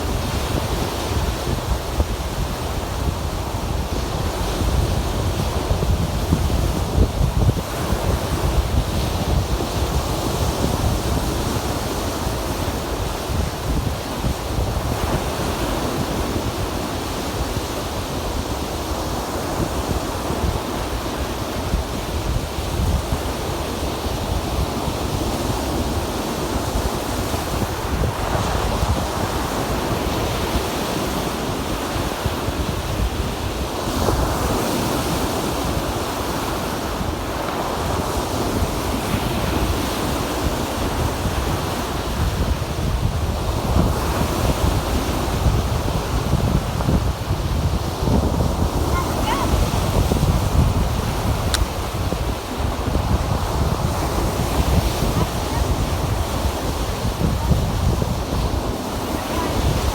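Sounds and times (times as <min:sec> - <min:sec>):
waves breaking on shore: 0:00.0 - 0:59.9
wind buffeting microphone: 0:00.0 - 0:59.9.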